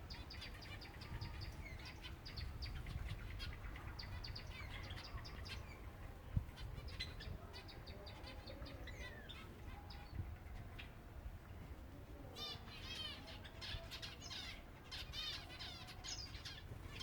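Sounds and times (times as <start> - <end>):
sparrows chirping: 0.0 - 5.9, 6.6 - 11.0, 12.2 - 17.0.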